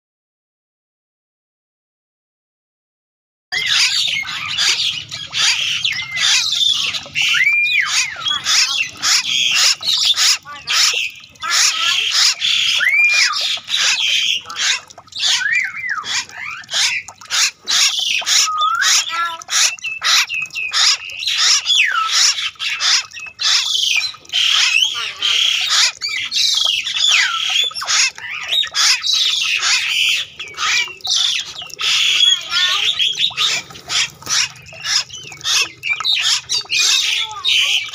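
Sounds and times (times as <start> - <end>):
birds chirping and whistling: 3.5 - 37.9.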